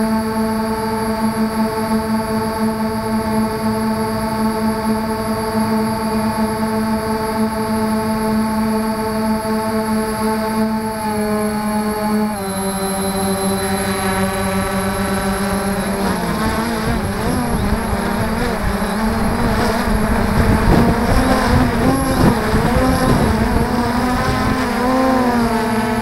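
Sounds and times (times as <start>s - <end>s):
drone motors and propellers whining: 0.0s - 26.0s.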